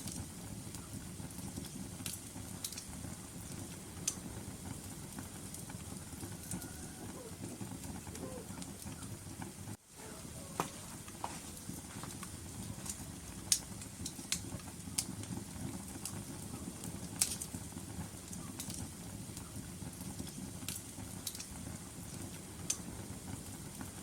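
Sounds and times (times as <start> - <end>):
fire crackling and popping: 0.0 - 24.0
fire rushing: 0.0 - 24.0.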